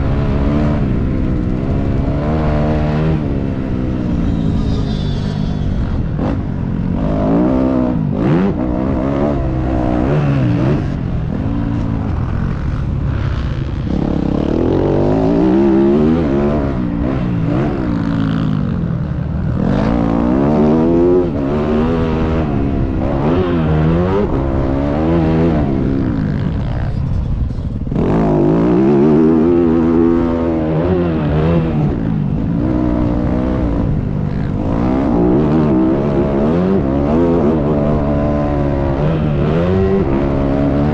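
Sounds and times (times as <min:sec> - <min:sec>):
dirt bike engine revving: 0:00.0 - 0:40.9
steady rumbling noise: 0:00.0 - 0:40.9.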